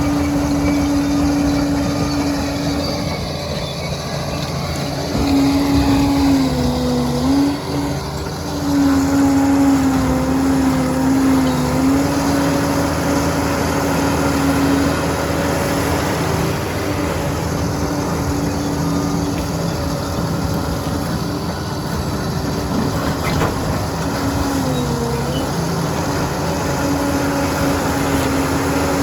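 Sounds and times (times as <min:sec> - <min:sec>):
dozer engine whine: 0:00.0 - 0:29.0.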